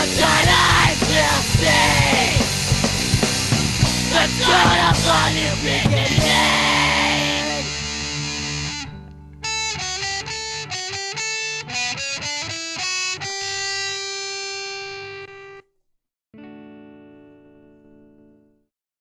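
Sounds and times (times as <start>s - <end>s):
electric guitar notes: 0.0s - 15.7s, 16.4s - 18.6s.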